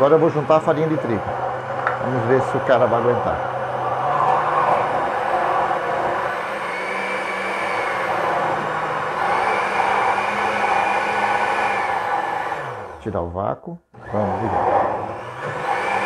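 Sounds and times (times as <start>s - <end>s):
blender motor churning batter: 0.0s - 13.0s, 14.0s - 16.0s.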